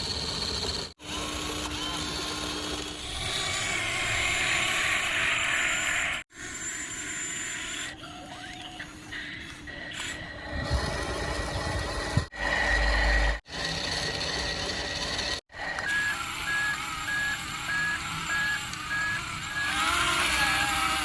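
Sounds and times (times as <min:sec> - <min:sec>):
toy electric motors whirring: 0:00.0 - 0:21.0.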